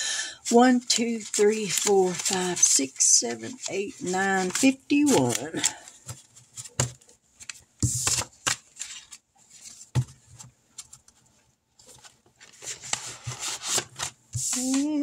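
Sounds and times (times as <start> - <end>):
paper bills rustling: 0.6 - 9.8, 11.9 - 15.0.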